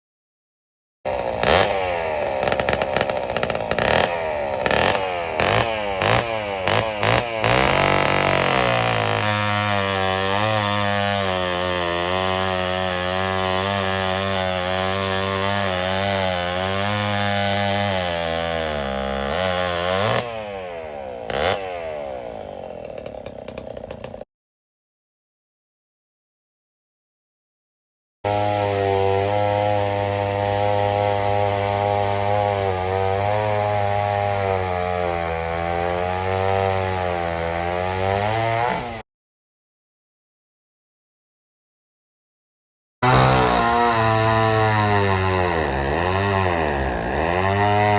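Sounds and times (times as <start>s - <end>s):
chainsaw engine revving: 1.1s - 24.3s, 28.3s - 39.0s, 43.0s - 47.9s.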